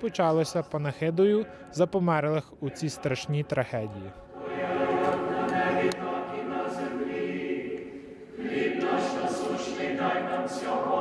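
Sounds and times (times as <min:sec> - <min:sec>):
choir chanting unaccompanied: 0:00.0 - 0:11.0.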